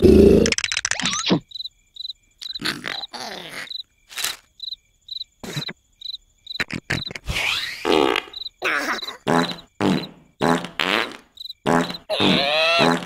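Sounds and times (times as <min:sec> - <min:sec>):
crickets chirping: 0:00.1 - 0:13.0.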